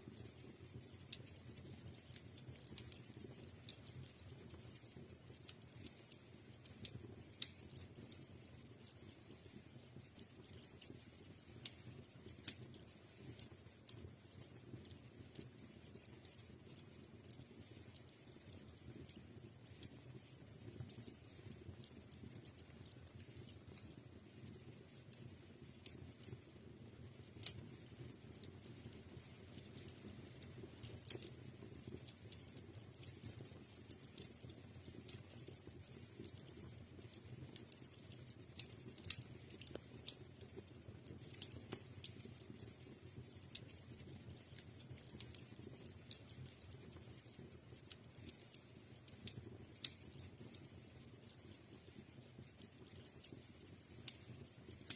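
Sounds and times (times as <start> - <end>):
fireplace fire crackling: 0.0 - 54.9.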